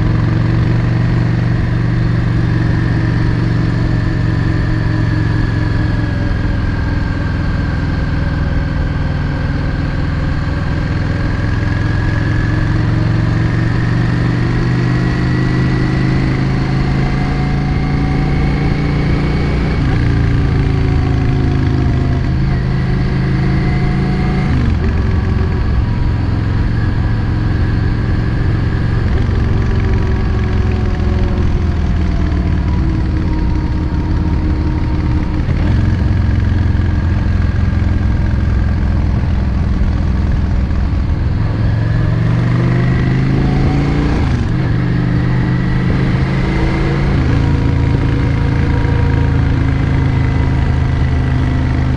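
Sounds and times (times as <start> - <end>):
motorcycle engine riding along: 0.0 - 51.9.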